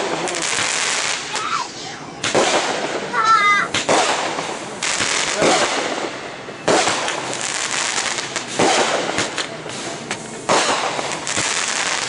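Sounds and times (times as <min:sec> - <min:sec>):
fireworks bangs with hiss: 0:00.0 - 0:12.0
sharp firework pops: 0:02.2 - 0:12.0.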